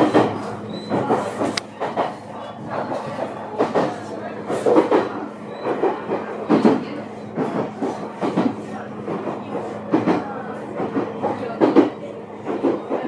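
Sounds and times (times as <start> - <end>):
train interior low hum: 0.0 - 13.0.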